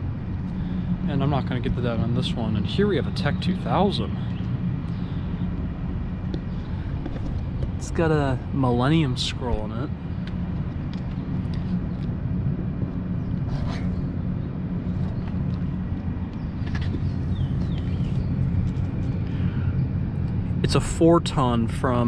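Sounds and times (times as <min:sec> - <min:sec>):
air conditioner units humming: 0:00.0 - 0:22.0.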